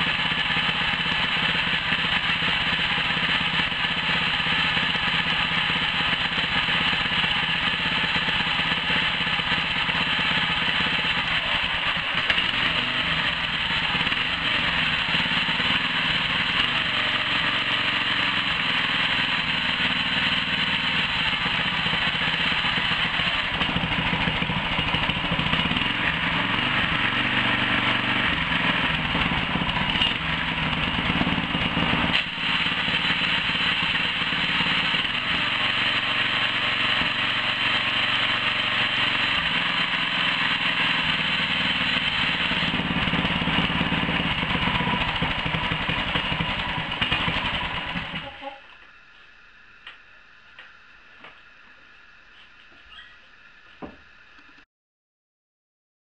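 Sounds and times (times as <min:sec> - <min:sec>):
outboard motor engine running: 0:00.0 - 0:48.6.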